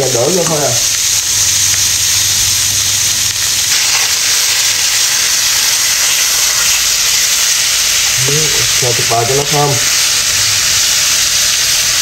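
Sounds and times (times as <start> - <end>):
meat and onions sizzling in a pan: 0.0 - 12.0.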